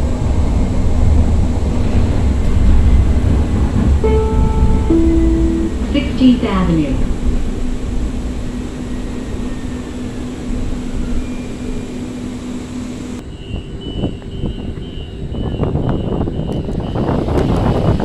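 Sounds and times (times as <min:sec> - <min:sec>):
light rail car humming: 0:00.0 - 0:18.0.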